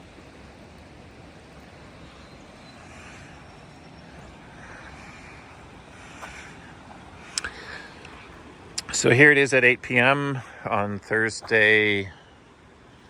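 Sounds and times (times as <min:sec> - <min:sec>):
river rushing in flood: 0:00.0 - 0:13.0.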